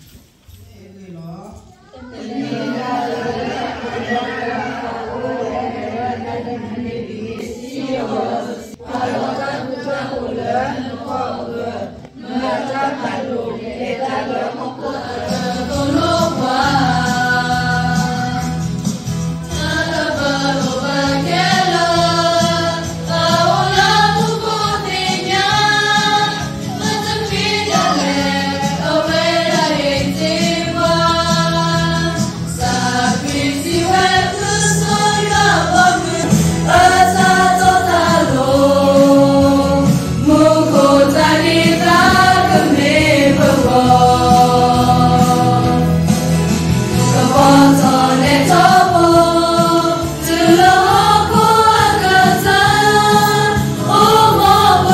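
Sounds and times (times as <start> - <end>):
women and girls singing a hymn: 2.0 - 54.9.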